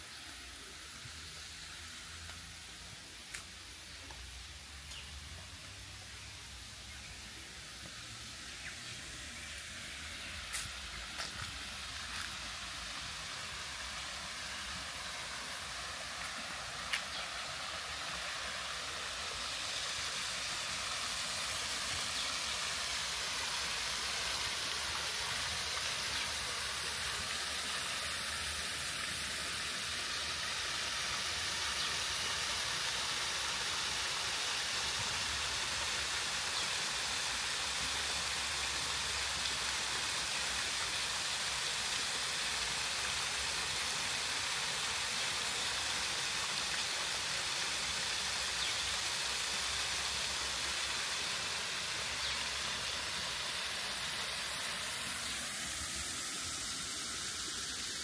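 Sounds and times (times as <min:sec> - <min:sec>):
waterfall spilling into pond: 0:00.0 - 0:58.0.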